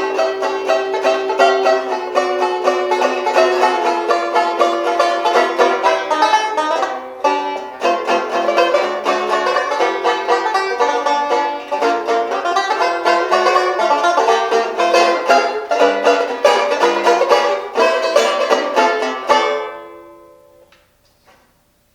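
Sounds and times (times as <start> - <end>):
banjo playing: 0.0 - 20.6.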